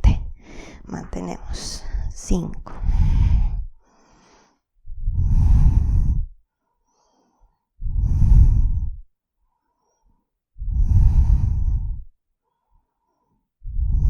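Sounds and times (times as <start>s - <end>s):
person breathing deeply: 0.0s - 14.0s.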